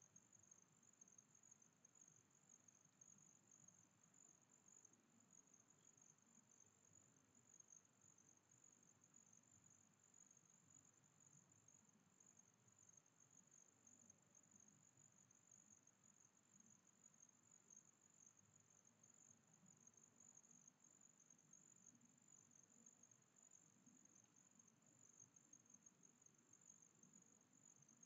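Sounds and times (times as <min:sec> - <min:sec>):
faint high-pitched whine: 0:00.0 - 0:28.0.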